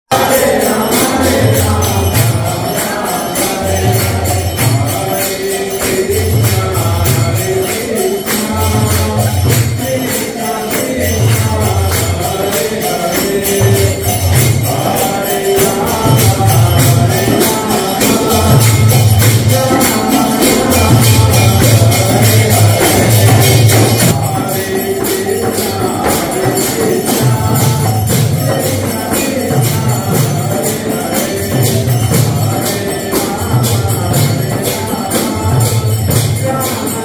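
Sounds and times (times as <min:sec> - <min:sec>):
devotional singing: 0:00.1 - 0:37.0
hand cymbals clashing: 0:00.1 - 0:37.0.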